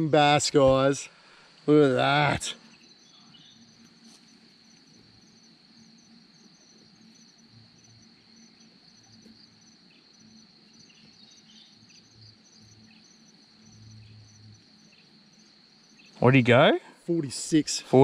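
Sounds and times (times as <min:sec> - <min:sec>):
high insect chirring drone: 0:00.0 - 0:18.0
pulsing insect chirp: 0:00.0 - 0:18.0.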